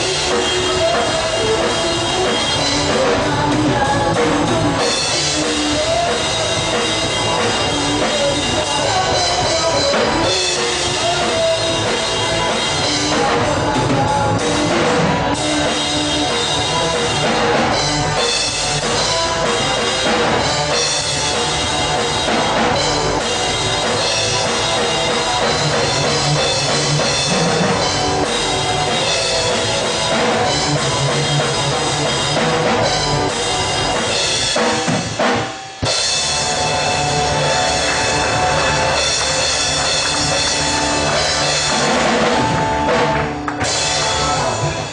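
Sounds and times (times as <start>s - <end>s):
drum kit beat: 0.0s - 44.9s
electric guitars: 0.0s - 44.9s
rock band playing: 0.0s - 44.9s.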